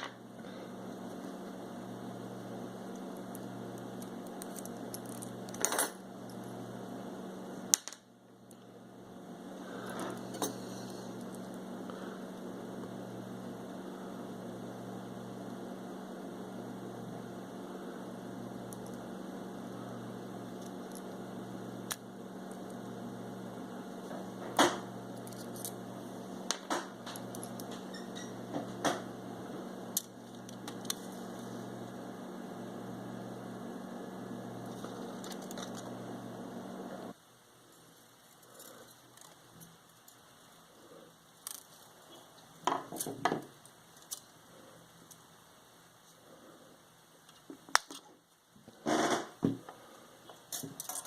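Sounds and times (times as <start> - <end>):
steady electrical hum: 0.0 - 51.0.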